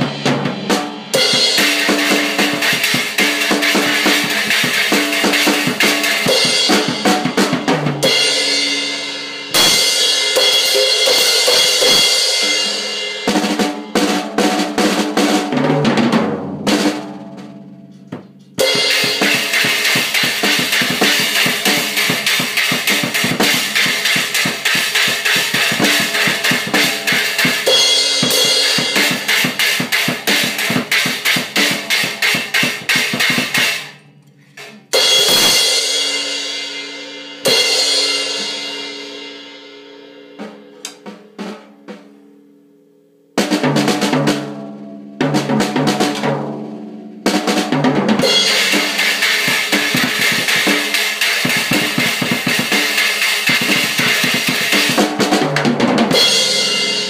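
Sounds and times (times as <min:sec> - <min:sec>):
drum kit beat: 0:00.0 - 0:42.3, 0:43.4 - 0:57.0.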